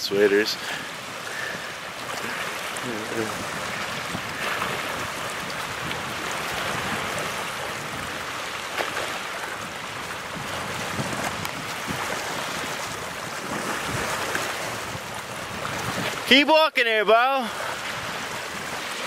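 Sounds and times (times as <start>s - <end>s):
small waves lapping: 0.0s - 19.0s
wind on microphone: 0.7s - 16.3s, 17.5s - 19.0s.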